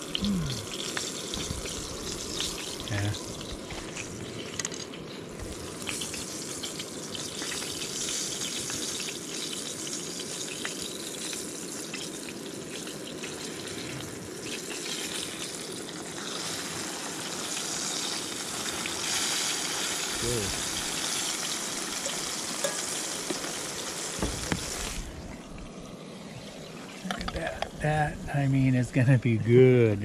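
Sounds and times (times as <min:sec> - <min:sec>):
fish frying in oil: 0:00.0 - 0:27.9.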